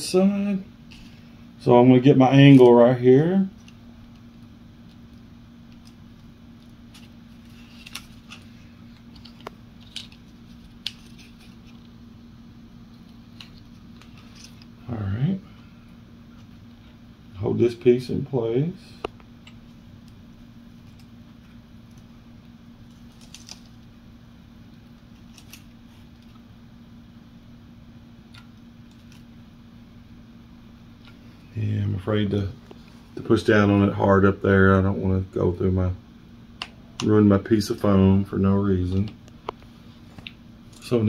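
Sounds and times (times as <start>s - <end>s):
faint steady low hum: 0.0s - 41.0s.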